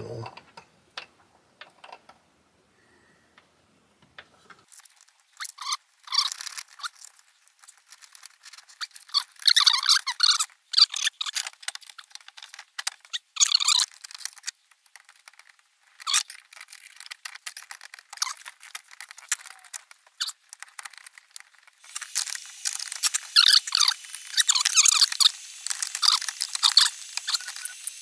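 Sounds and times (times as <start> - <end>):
wires scraping and clicking in metal box: 4.4 - 28.0.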